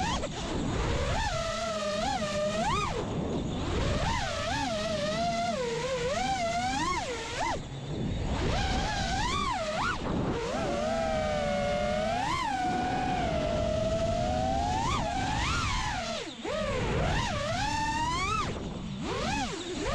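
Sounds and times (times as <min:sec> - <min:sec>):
drone motors whining: 0:00.0 - 0:19.9.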